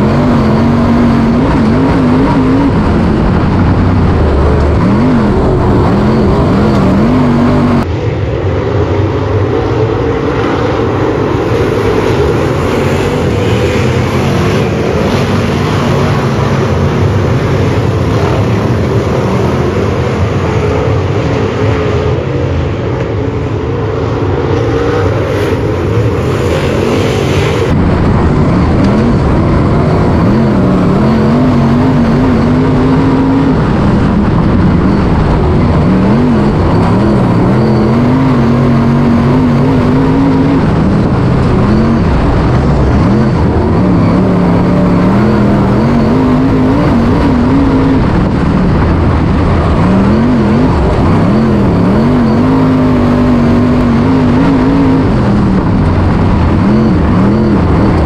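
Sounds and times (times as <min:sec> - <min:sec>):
in-car engine revving and lifting: 0:00.0 - 0:58.0
race car engines racing: 0:00.0 - 0:58.0.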